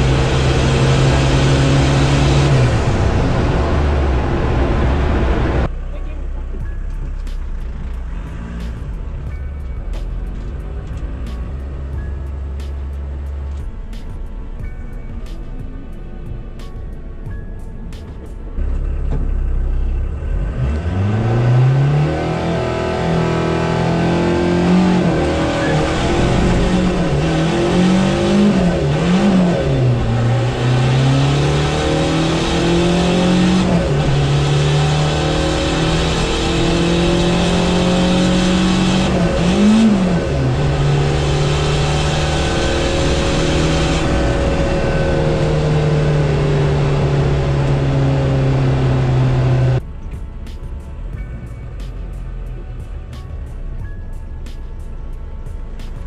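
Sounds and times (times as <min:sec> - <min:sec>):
diesel engine at full throttle: 0:00.0 - 0:56.0.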